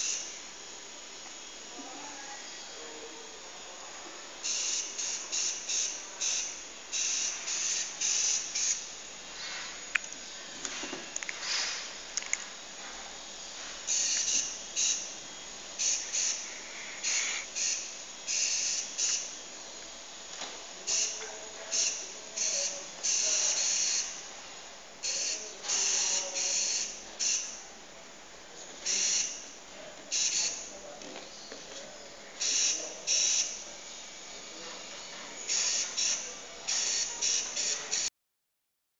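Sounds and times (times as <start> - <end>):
steady hiss: 0.0 - 38.1.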